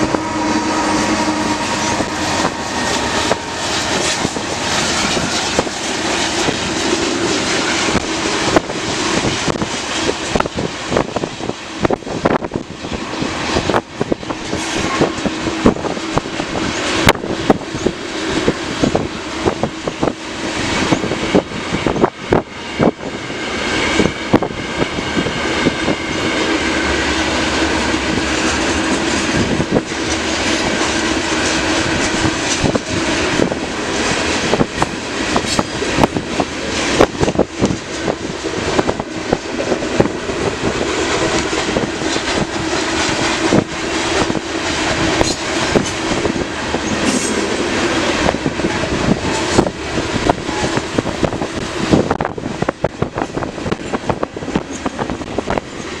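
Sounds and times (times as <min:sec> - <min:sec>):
freight train wheels clacking: 0:00.0 - 0:56.0
wind buffeting microphone: 0:00.0 - 0:56.0.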